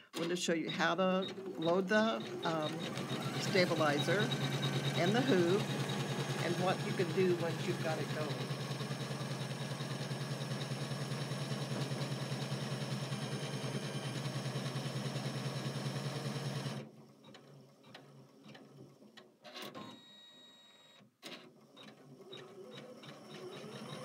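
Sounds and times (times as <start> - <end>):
embroidery machine stitching: 0.0 - 19.7, 21.2 - 24.0.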